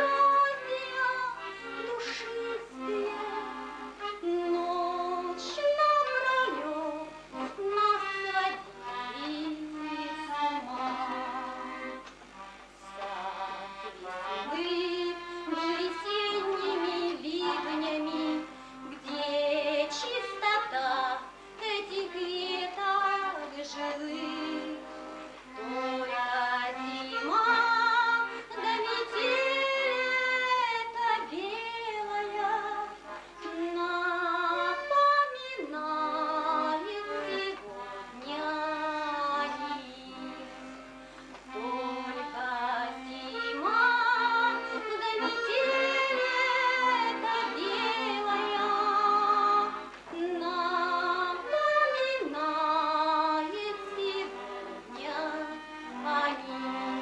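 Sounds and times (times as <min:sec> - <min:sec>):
woman singing: 0:00.0 - 0:12.0, 0:13.0 - 0:40.7, 0:41.5 - 0:57.0
instrumental accompaniment: 0:00.0 - 0:57.0.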